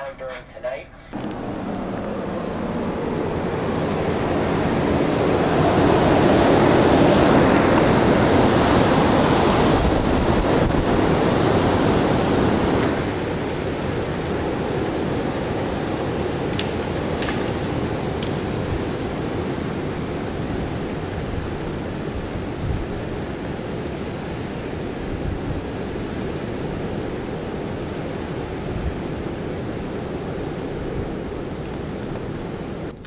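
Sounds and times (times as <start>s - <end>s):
storm wind rushing: 1.2s - 33.0s.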